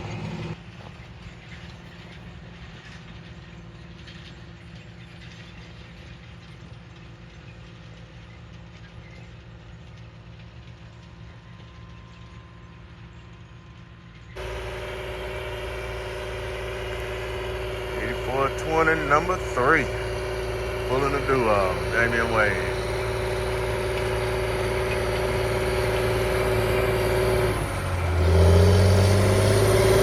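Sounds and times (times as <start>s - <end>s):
cultivator rattle and clatter: 0.0s - 30.0s
tractor engine drone: 0.0s - 30.0s.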